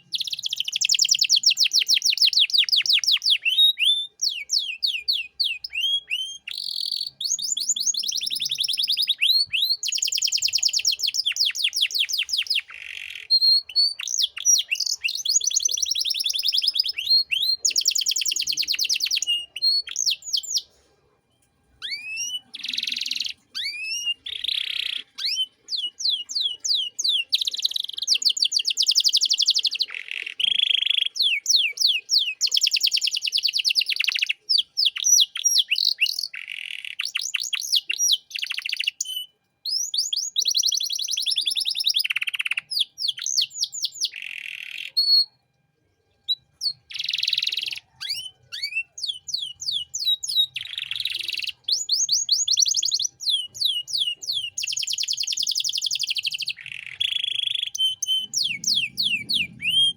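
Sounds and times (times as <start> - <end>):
canary singing trills: 0.0 - 45.4, 46.2 - 59.9.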